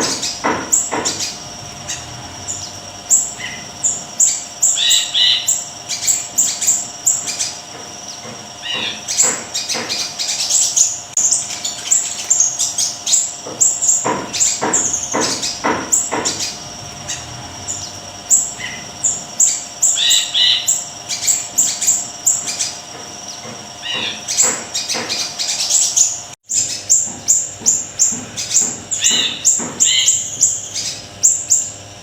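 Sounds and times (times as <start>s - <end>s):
songbird chirping and trilling: 0.0s - 31.8s.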